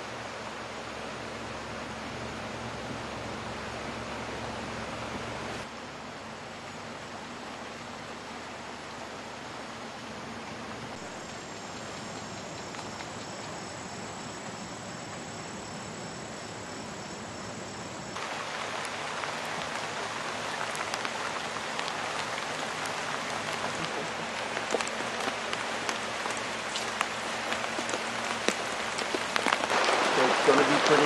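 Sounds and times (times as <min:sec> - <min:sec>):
rain falling on water: 0:00.0 - 0:31.0
steady rain hiss: 0:00.0 - 0:31.0.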